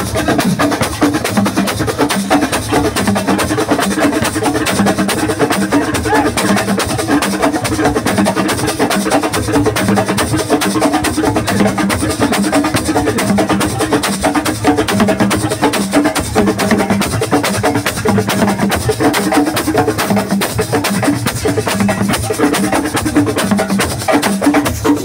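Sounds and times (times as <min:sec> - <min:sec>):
fast percussion band music: 0:00.0 - 0:25.0.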